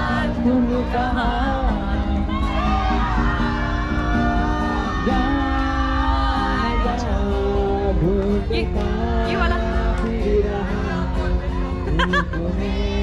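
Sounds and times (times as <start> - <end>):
person singing film song: 0.0 - 13.0.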